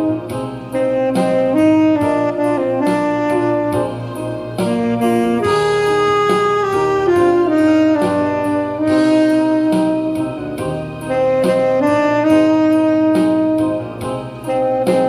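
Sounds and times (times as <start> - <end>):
backing track with steady beat: 0.0 - 15.0
tenor saxophone slow melody: 0.0 - 15.0.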